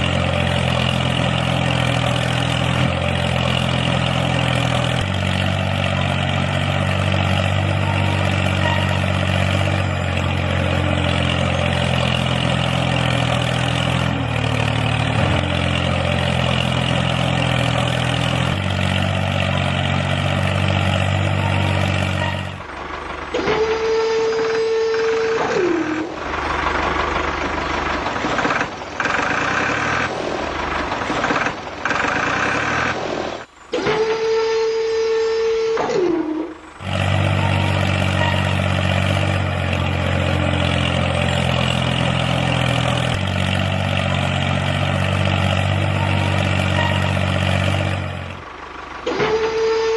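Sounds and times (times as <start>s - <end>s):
rough mechanical noise: 0.0s - 49.9s
tractor engine running: 0.0s - 49.9s.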